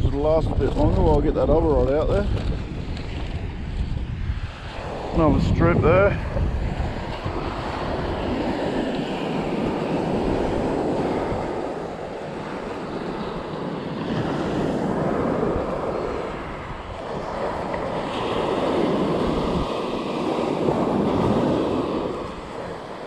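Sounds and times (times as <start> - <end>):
wind buffeting microphone: 0.0 - 23.0
surf breaking on beach: 0.6 - 23.0.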